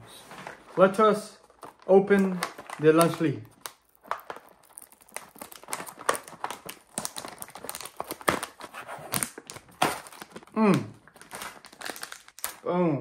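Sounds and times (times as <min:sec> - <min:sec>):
snack packaging crinkling: 0:01.4 - 0:12.7.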